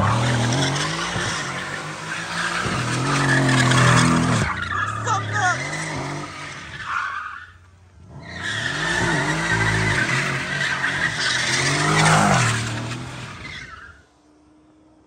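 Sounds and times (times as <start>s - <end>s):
car engine revving: 0.0s - 7.0s, 7.9s - 13.7s
tyres screeching: 0.0s - 14.0s.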